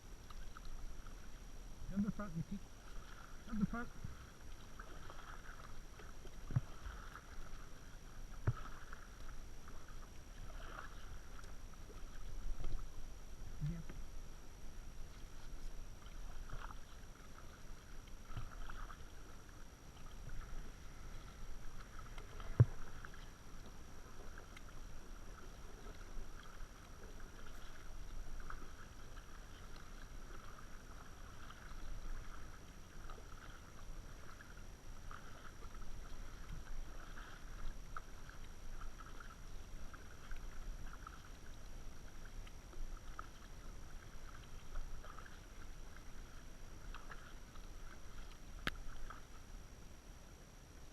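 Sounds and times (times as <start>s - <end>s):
paddle splashing water: 0.0s - 50.9s.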